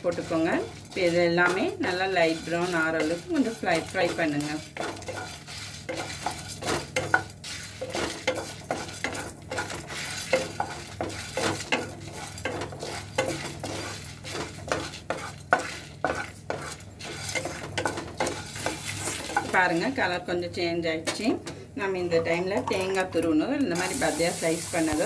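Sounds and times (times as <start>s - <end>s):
utensil stirring and scraping pan: 0.0s - 20.1s
light sizzle: 0.0s - 21.4s, 22.6s - 25.0s.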